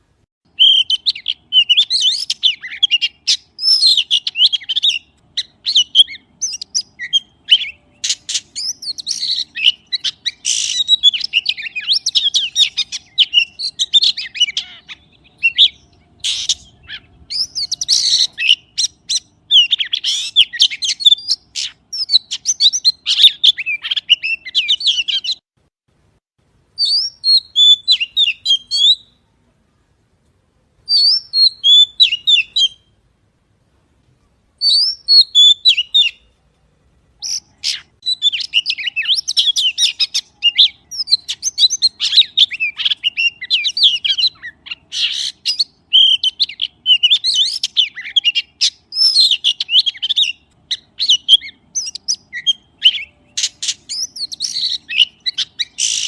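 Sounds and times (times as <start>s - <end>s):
magpie singing: 0.5s - 25.4s, 26.8s - 29.2s, 30.9s - 33.0s, 34.6s - 36.4s, 37.2s - 56.0s.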